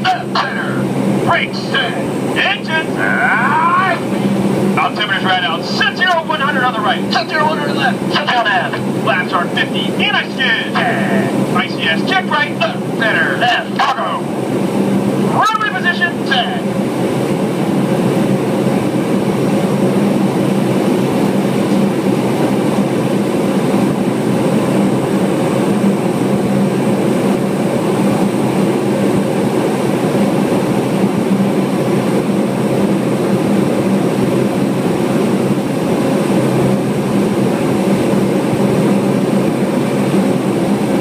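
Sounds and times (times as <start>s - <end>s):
turboprop engines droning: 0.0s - 41.0s.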